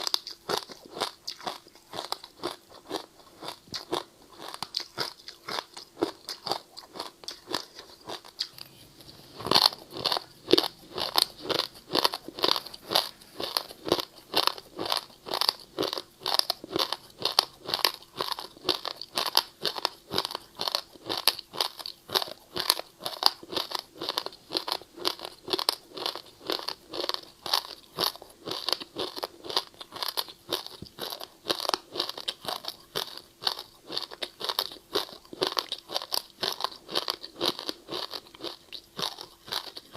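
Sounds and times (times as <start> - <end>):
ice being bitten and chewed: 0.0 - 39.9.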